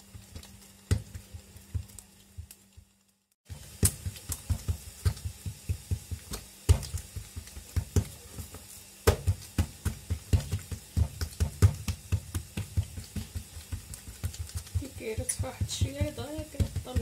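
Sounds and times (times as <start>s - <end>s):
hand slapping dough: 0.0s - 2.6s, 3.5s - 17.0s.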